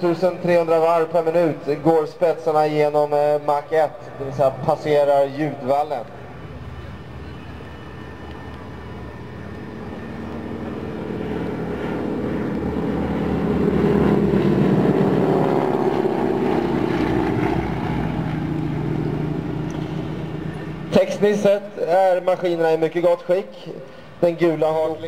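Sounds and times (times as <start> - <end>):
propeller planes flying past: 0.0 - 25.0.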